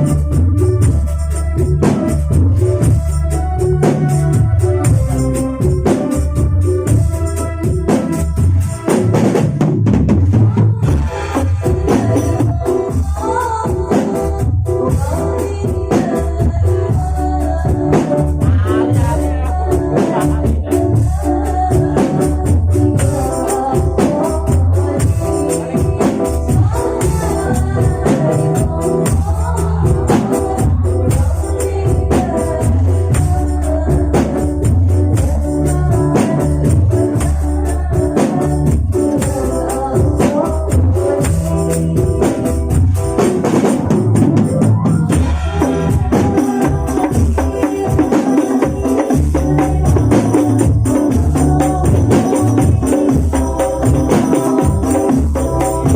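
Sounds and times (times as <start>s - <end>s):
frame drums with jingles: 0.0s - 55.9s
person singing melody: 10.3s - 42.8s, 43.4s - 55.9s.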